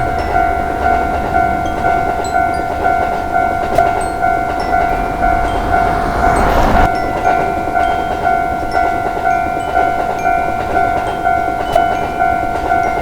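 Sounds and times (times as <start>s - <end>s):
level-crossing warning bell: 0.0s - 13.0s
rumble of passing train: 0.0s - 13.0s.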